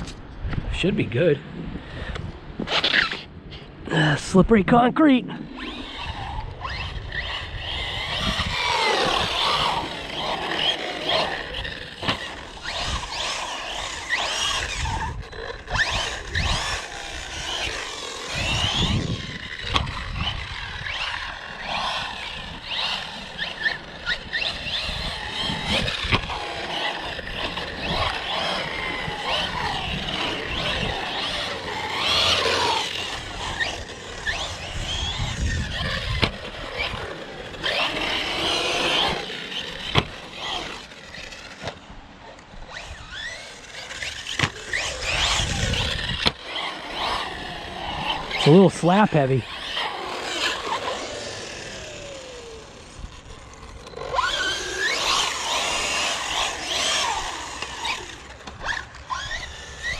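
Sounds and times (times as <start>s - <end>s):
rc car motor whine: 1.5s - 59.9s
tyres scraping on wet concrete: 5.6s - 59.9s.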